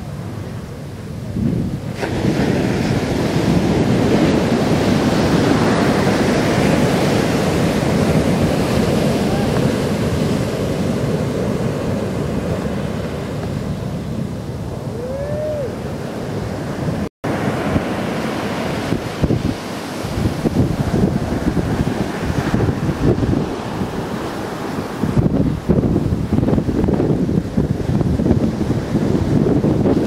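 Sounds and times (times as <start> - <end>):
heavy surf crashing: 0.0 - 30.0
wind buffeting microphone: 0.0 - 30.0.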